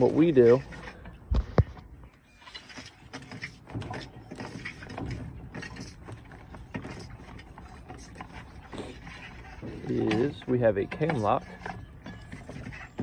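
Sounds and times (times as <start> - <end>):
hose fittings knocking and clattering: 2.5 - 13.0.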